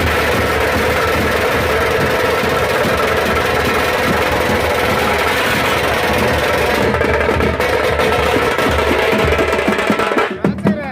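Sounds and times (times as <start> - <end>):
fast loud drumming: 0.0 - 10.9.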